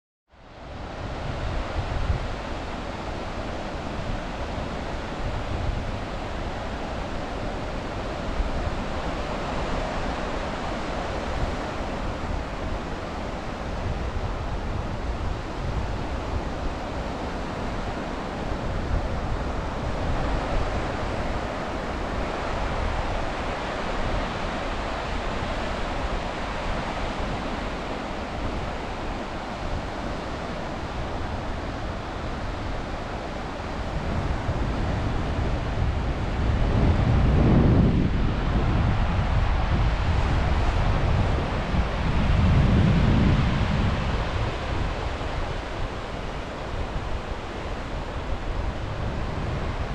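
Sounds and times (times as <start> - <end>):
wind gusting on microphone: 0.4 - 49.9
sea waves washing on shore: 0.5 - 49.9.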